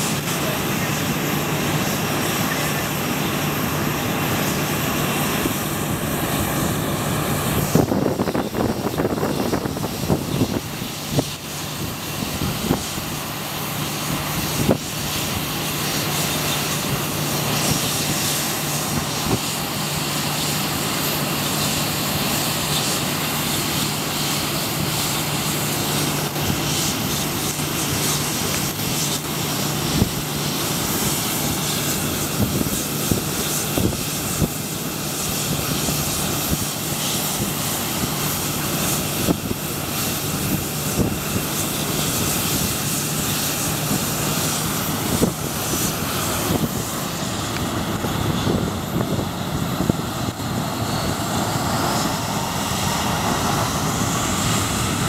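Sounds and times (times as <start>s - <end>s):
jet engines running steadily: 0.0s - 55.0s.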